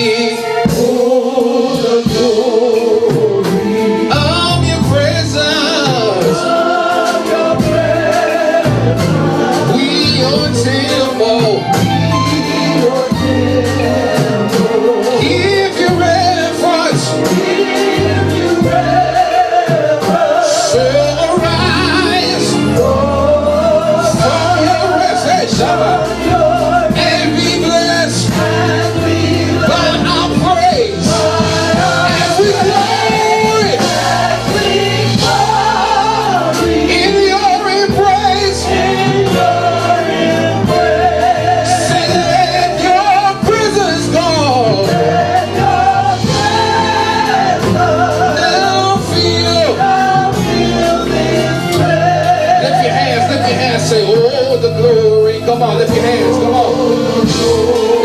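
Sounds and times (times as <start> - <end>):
band with bass and drums: 0.0 - 58.0
singers singing: 0.0 - 58.0.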